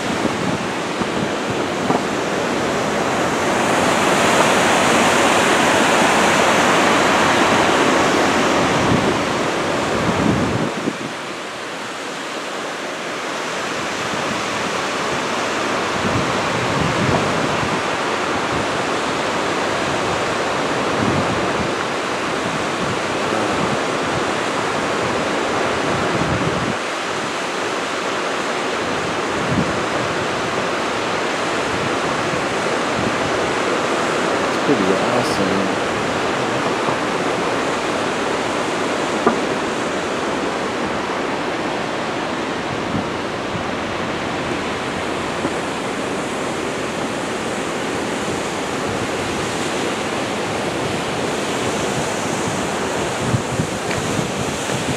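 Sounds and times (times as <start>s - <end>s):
creek water rushing: 0.0s - 54.9s.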